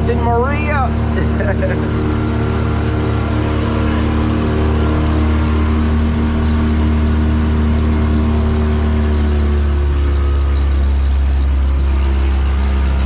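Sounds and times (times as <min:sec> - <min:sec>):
engine humming with whine: 0:00.0 - 0:13.0.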